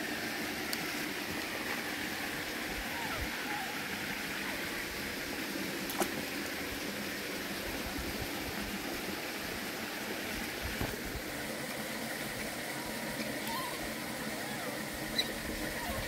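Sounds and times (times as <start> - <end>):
stream water running over rocks: 0.0 - 16.0.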